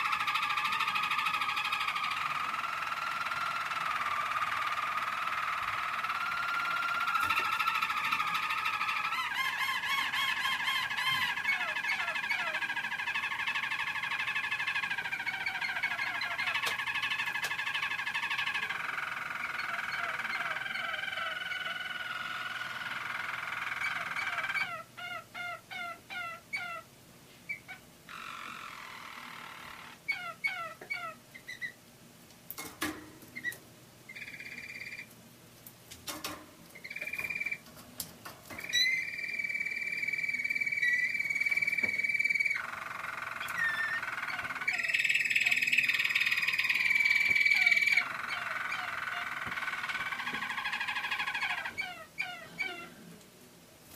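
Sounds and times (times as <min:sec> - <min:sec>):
canary singing: 0:00.0 - 0:26.9, 0:27.5 - 0:31.8, 0:33.4 - 0:35.1, 0:36.8 - 0:37.7, 0:38.5 - 0:53.1.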